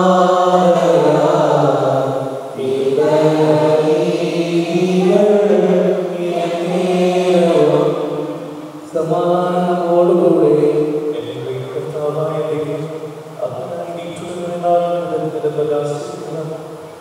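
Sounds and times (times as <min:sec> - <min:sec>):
man chanting a prayer: 0:00.0 - 0:16.6.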